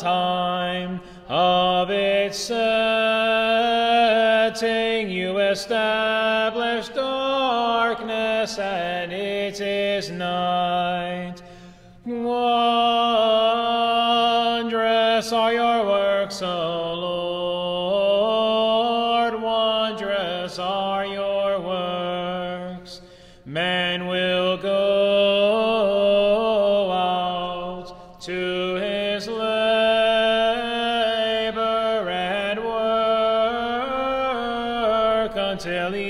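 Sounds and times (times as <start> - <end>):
person chanting: 0.0 - 36.0.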